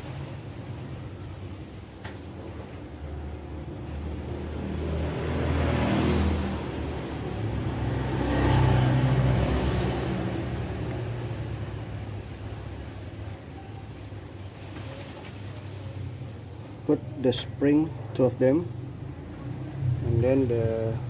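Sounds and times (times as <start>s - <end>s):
vehicles passing by rumble: 0.0s - 21.0s.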